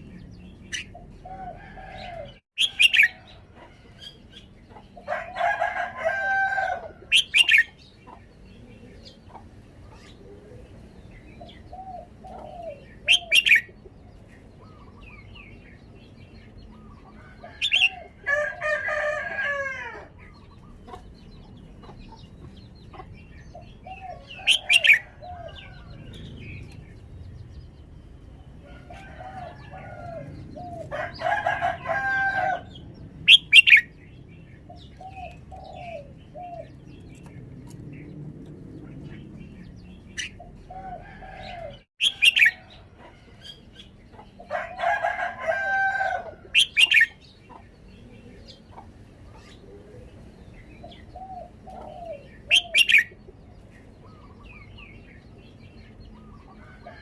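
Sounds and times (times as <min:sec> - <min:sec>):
bird singing warbled phrases: 0:00.0 - 0:03.4, 0:06.6 - 0:19.3, 0:20.0 - 0:28.6, 0:29.4 - 0:57.0.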